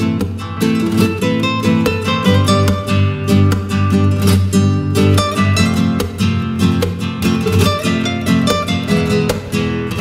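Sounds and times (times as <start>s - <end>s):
flamenco acoustic guitar: 0.0s - 10.0s.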